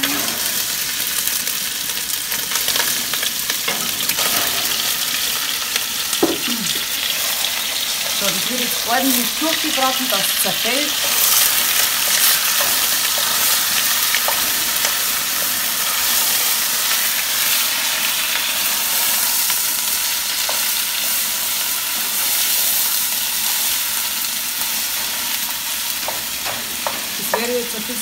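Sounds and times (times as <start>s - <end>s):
meat sizzling in a pot: 0.0s - 28.0s.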